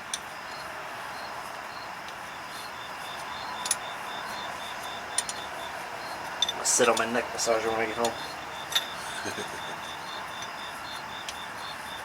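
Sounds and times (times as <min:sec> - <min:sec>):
cricket chirping: 0:00.0 - 0:12.0
steady hiss: 0:00.0 - 0:12.0.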